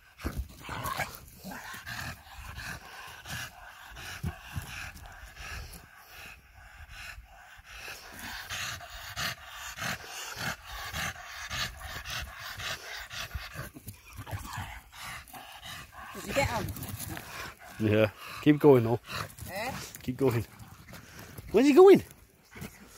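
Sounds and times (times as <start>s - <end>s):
dog panting: 0.0s - 22.9s.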